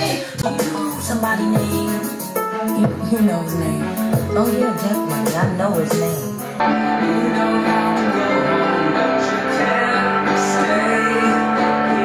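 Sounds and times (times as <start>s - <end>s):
music with held layered tones: 0.0s - 12.0s.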